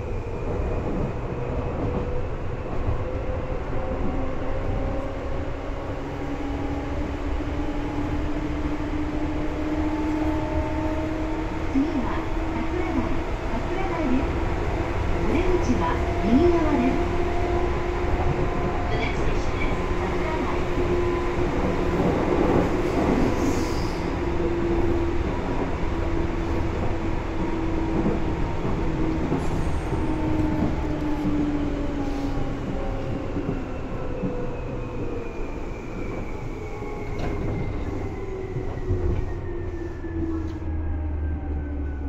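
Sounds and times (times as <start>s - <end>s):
wheels rumbling on track: 0.0s - 42.0s.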